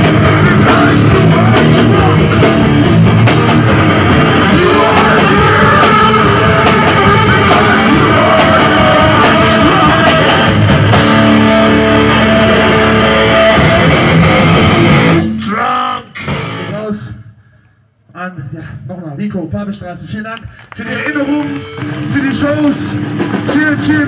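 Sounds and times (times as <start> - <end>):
punk rock music: 0.0 - 17.0, 21.0 - 24.0.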